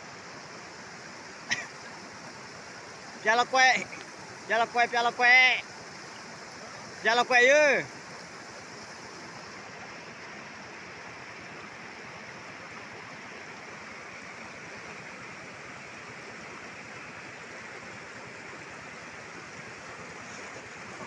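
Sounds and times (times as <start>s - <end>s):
rocky river rushing: 0.0s - 21.0s.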